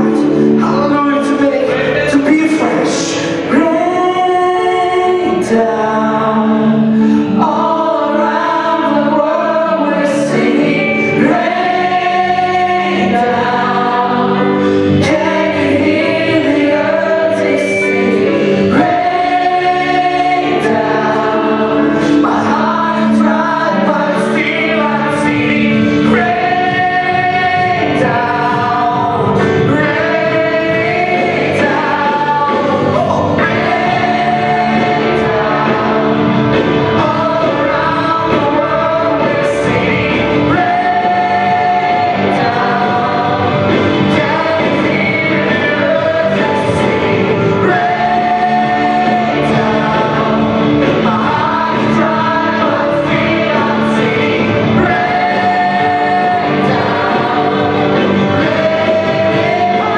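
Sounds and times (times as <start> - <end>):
choir singing gospel song: 0.0 - 59.9
worship band playing: 0.0 - 59.9.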